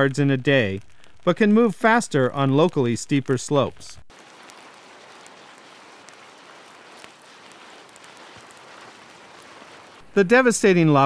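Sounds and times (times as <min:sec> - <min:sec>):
faint hiss of lava flow: 0:00.0 - 0:11.0
small crackles: 0:00.0 - 0:11.0.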